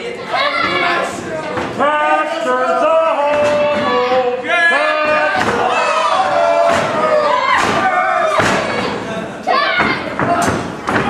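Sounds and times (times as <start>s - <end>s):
crowd shouting and chanting: 0.0s - 11.0s.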